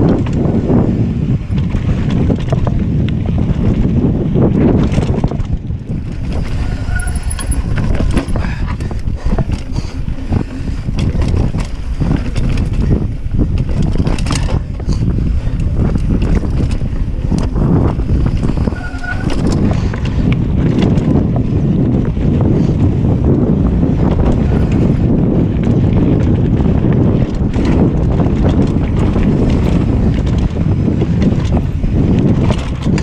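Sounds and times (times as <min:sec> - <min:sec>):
bike clacking and rattling: 0:00.0 - 0:33.0
tyres rumbling on dirt trail: 0:00.0 - 0:33.0
wind buffeting microphone: 0:00.0 - 0:33.0.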